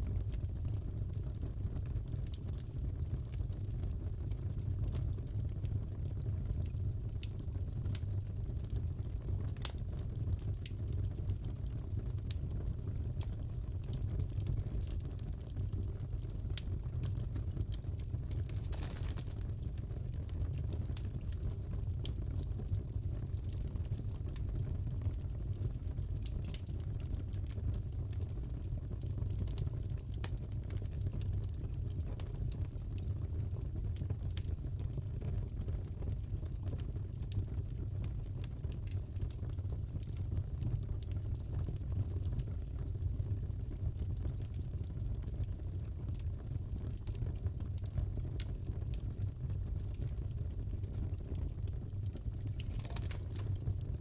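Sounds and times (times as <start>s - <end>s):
fire popping and crackling: 0.0s - 54.0s
fire rumbling: 0.0s - 54.0s.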